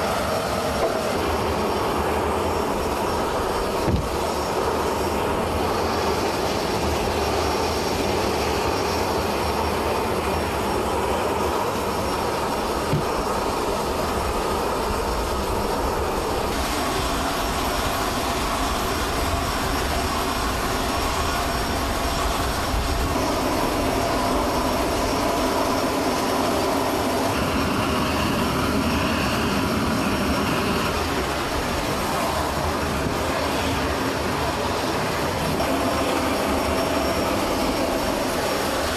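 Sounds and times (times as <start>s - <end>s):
jet turbine rumble and whine: 0.0s - 38.9s.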